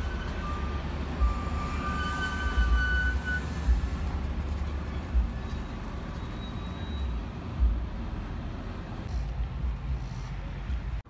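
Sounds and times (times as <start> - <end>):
train passing rumble: 0.0 - 11.0.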